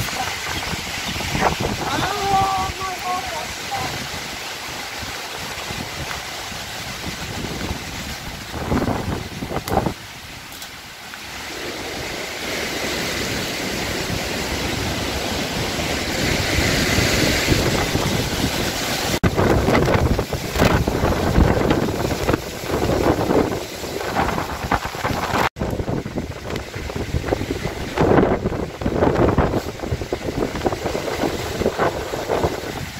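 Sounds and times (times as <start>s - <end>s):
wind and rain: 0.0s - 32.9s
wind gusts buffeting microphone: 0.0s - 32.9s.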